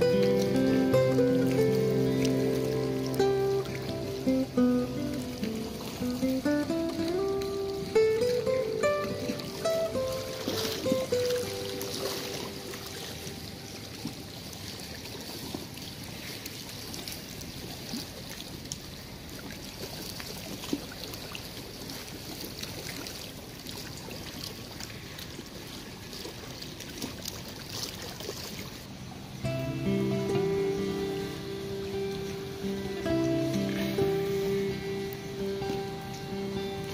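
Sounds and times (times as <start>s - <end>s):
waves lapping on stony shore: 0.0s - 36.9s.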